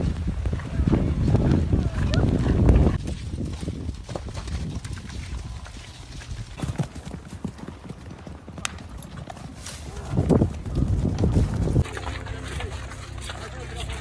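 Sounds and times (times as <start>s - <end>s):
horse hoofbeats on grass: 0.0s - 14.0s.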